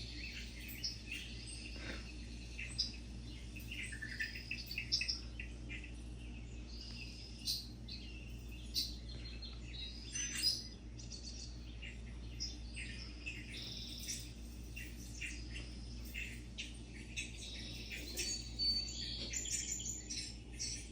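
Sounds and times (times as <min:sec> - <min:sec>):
small birds chirping and singing: 0:00.0 - 0:20.9
steady low hum: 0:00.0 - 0:20.9.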